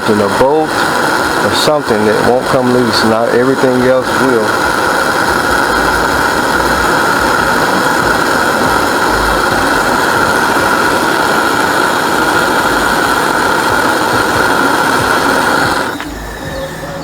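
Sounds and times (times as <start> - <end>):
blowtorch hissing: 0.0 - 17.0.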